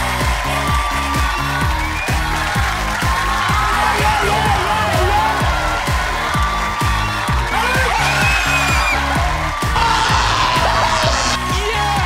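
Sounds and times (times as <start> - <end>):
electronic kick drum beat: 0.0 - 11.4.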